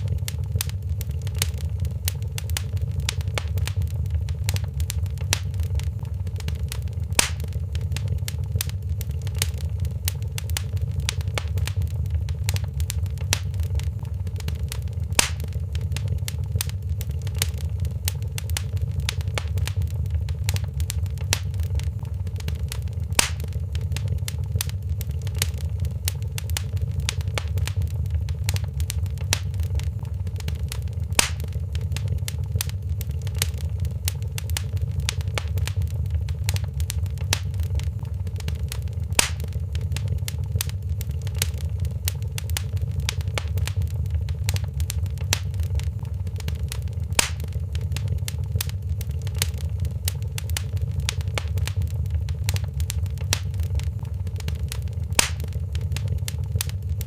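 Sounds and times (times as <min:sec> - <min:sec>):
steady low rumble: 0:00.0 - 0:57.0
wood fire crackling and popping: 0:00.0 - 0:57.0.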